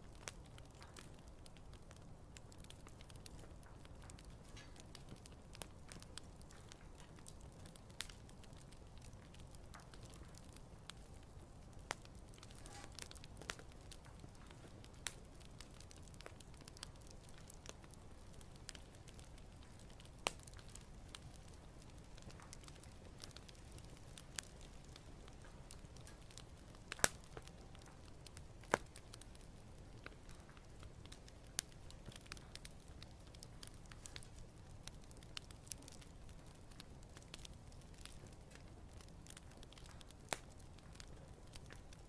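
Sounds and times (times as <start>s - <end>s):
campfire crackling and popping: 0.0s - 42.0s
rush of burning fire: 0.0s - 42.0s.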